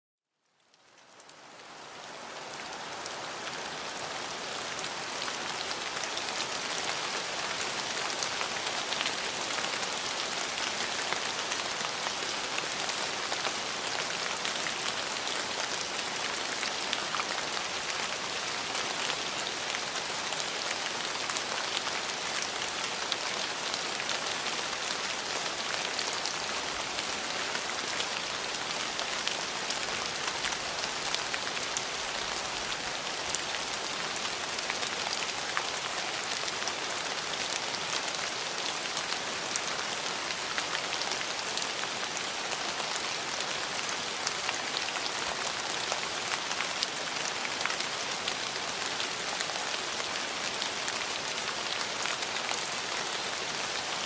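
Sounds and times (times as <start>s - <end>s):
rain on hard surfaces: 0.3s - 54.0s.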